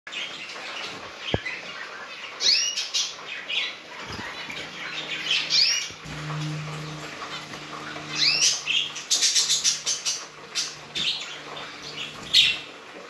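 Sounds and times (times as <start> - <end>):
finches chirping: 0.1 - 6.1, 6.8 - 12.7.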